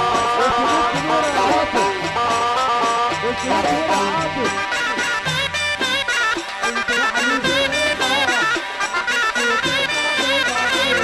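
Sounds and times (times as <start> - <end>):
loud music with sliding melody: 0.0 - 11.0
repeating bass line: 0.0 - 11.0.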